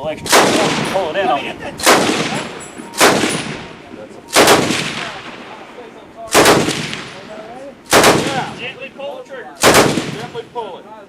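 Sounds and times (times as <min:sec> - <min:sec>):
loud gunshots echoing: 0:00.3 - 0:08.9, 0:09.6 - 0:10.7.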